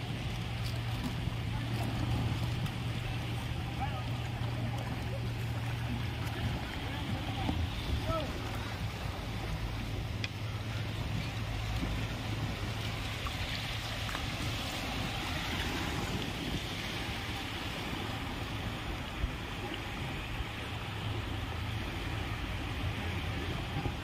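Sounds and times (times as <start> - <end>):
low steady hum: 0.0 - 24.0
small waves on sand: 0.0 - 24.0.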